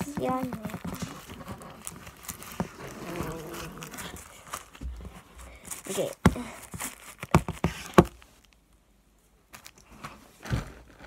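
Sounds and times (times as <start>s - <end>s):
knocks and bumps of doll handling: 0.0s - 8.5s, 9.5s - 11.0s
rustling: 0.0s - 11.0s.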